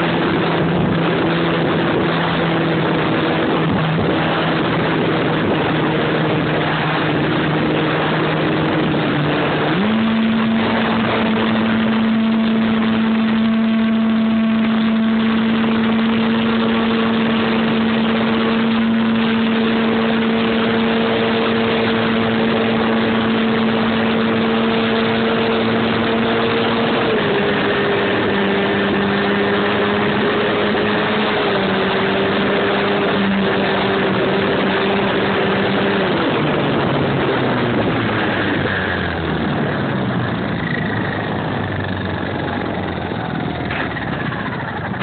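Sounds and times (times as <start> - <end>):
model airplane motor and propeller: 0.0 - 45.0.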